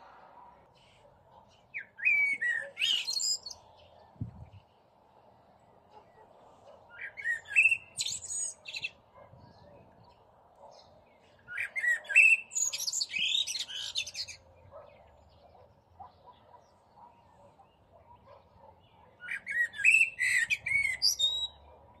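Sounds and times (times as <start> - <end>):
blackbird singing: 0.7 - 4.8, 5.9 - 21.8.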